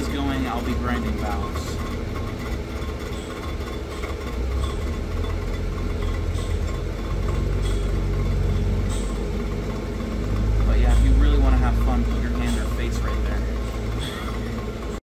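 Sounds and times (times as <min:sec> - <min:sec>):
milling machine humming: 0:00.0 - 0:15.0.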